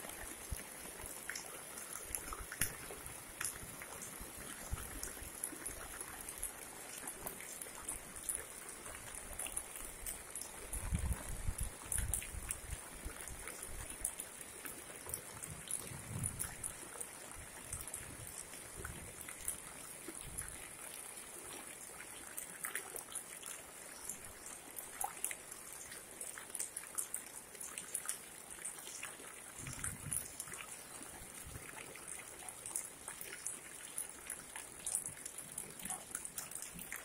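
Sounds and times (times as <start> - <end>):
raindrops pattering on water: 0.0 - 37.0
steady hiss of water: 0.0 - 37.0.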